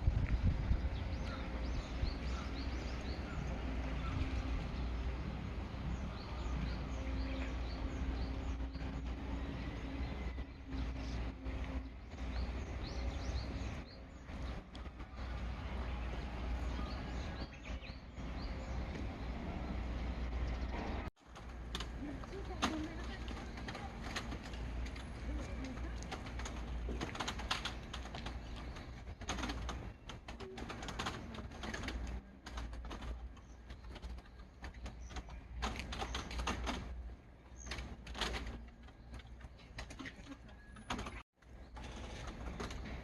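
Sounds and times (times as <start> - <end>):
low outdoor rumble: 0.0 - 43.0
small birds chirping: 0.1 - 21.1, 21.8 - 43.0.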